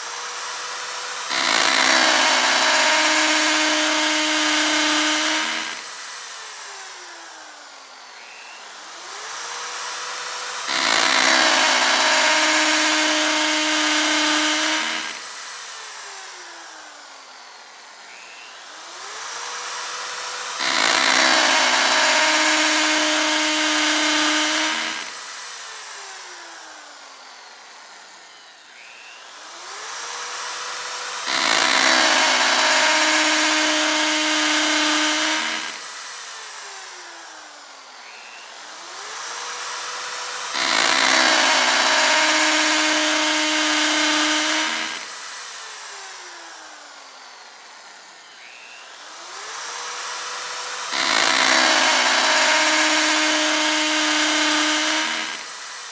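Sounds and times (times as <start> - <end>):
electric drill running: 0.0 - 55.9.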